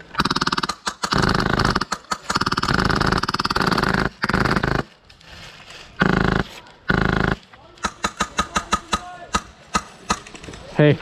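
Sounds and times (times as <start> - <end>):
airsoft machine gun firing bursts: 0.0 - 4.9, 6.0 - 10.3.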